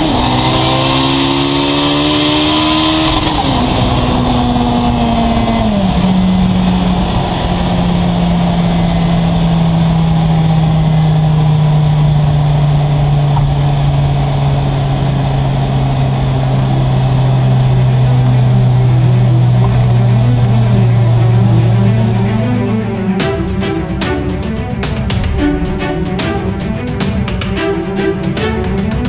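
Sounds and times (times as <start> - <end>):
car engine droning inside cabin: 0.0 - 28.1
road and wind noise: 0.0 - 29.0.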